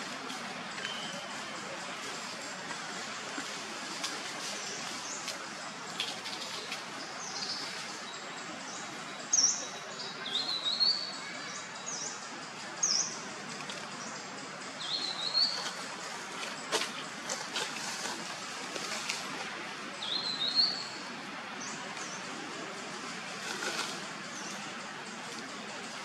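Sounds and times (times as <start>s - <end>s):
birds chirping: 0.0s - 26.0s
steady background hiss: 0.0s - 26.0s.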